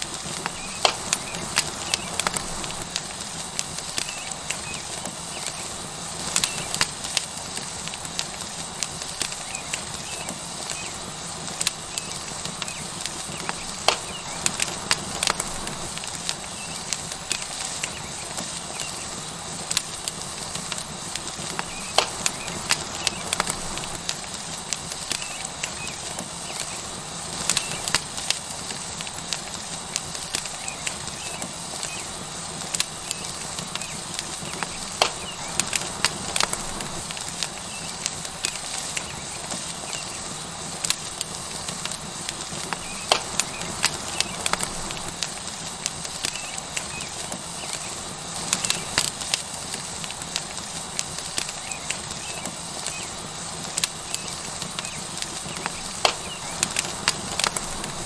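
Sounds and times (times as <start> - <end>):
steak sizzling on hot rock: 0.0 - 58.0
wood fire crackling and popping: 0.0 - 58.0.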